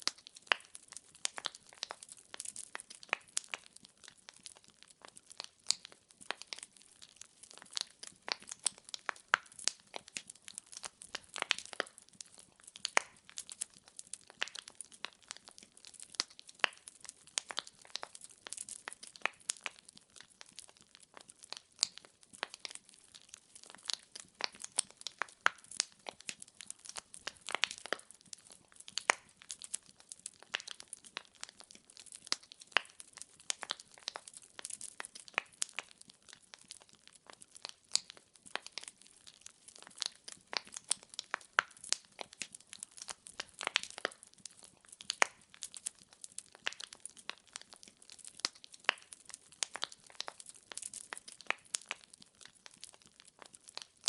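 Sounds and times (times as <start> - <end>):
firewood crackling: 0.0 - 54.0.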